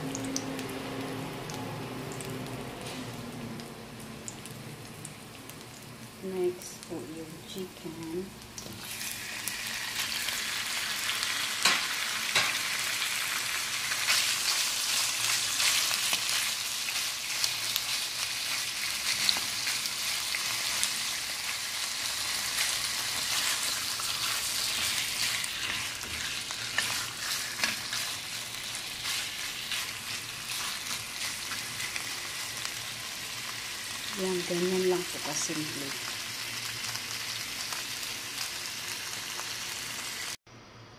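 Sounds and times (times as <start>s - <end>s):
chicken sizzling in hot oil: 0.0s - 40.4s.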